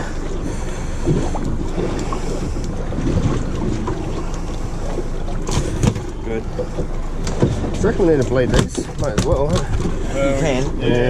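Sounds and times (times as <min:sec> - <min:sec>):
boat noise: 0:00.0 - 0:11.0
sea rushing: 0:00.0 - 0:11.0.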